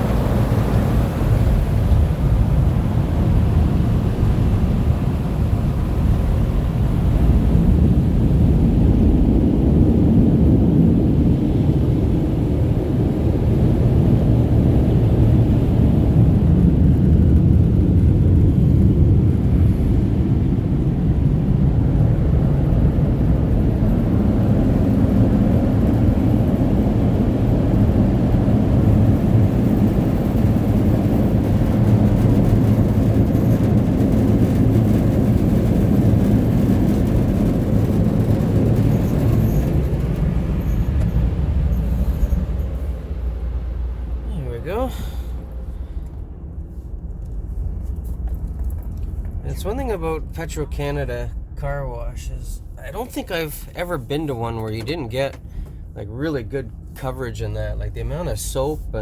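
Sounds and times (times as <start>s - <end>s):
car wash machinery roaring: 0.0s - 59.0s.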